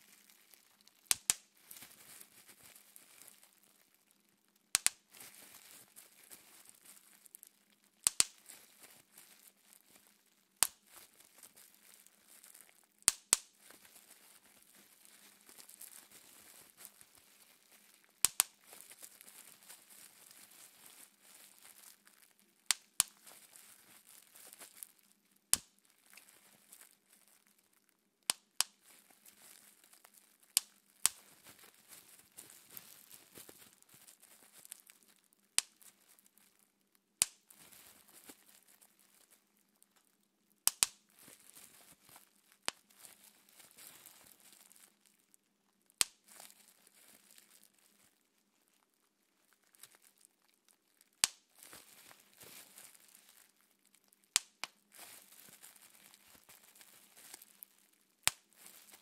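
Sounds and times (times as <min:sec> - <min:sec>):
bubble wrap popping: 0:00.0 - 0:59.0
plastic crinkling: 0:00.0 - 0:59.0.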